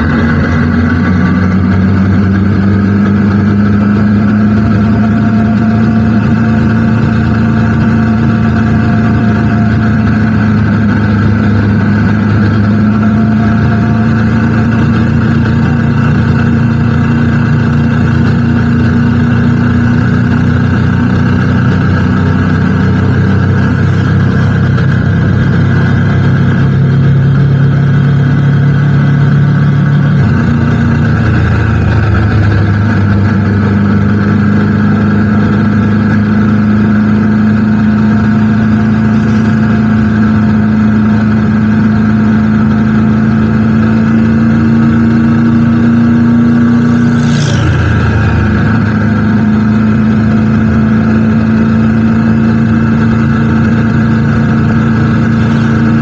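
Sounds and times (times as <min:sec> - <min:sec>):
motorcycle engine cruising: 0:00.0 - 0:56.0
road and wind noise: 0:00.0 - 0:56.0.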